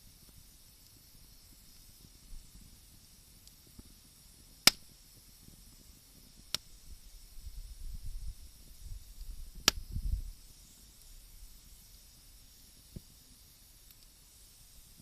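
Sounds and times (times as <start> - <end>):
burning wood popping: 0.0 - 15.0
faint fire hiss: 0.0 - 15.0.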